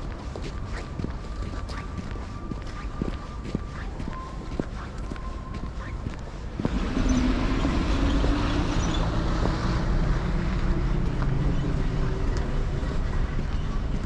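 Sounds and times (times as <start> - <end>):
road noise rumble: 0.0 - 14.0
vehicle engine humming: 0.0 - 14.0.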